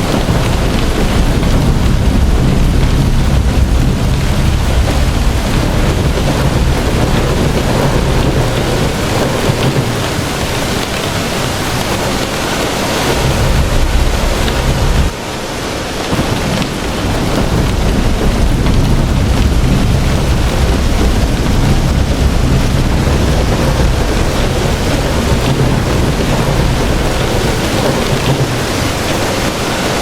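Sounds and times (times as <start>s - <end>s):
deep thunder rumble: 0.0s - 30.0s
heavy rain: 0.0s - 30.0s.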